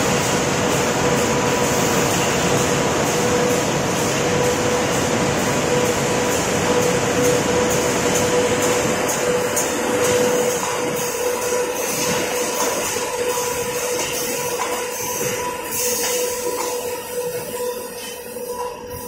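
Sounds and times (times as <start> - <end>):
conveyor machine hum and whine: 0.0 - 19.0.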